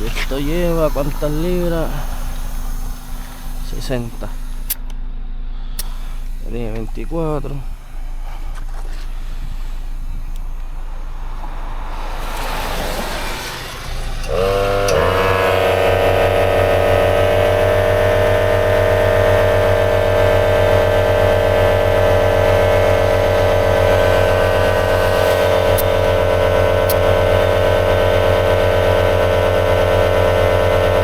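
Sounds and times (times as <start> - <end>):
air hiss: 0.0 - 4.9, 5.5 - 29.4
air compressor motor humming: 0.0 - 31.0.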